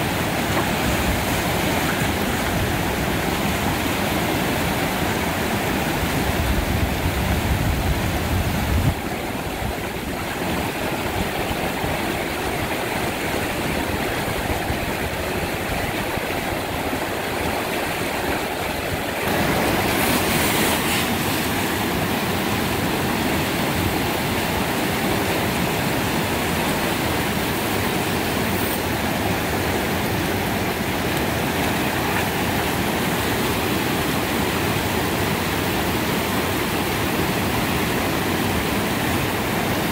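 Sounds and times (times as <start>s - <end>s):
rapids rushing over rocks: 0.0s - 39.9s.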